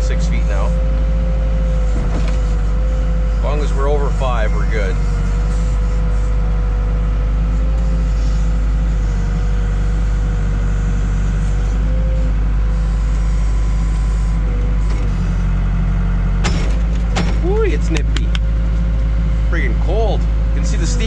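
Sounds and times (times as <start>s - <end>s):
diesel engine drone: 0.0s - 21.0s
steady whine: 0.0s - 21.0s.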